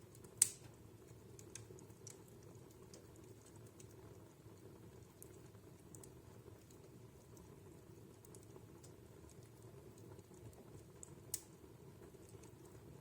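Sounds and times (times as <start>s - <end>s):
wood fire crackling faintly: 0.0s - 13.0s.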